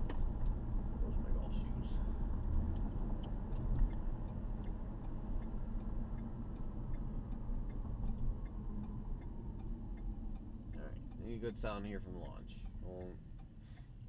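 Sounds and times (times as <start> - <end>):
exhaust and road rumble: 0.0 - 14.0
turn-signal ticking: 0.0 - 14.0.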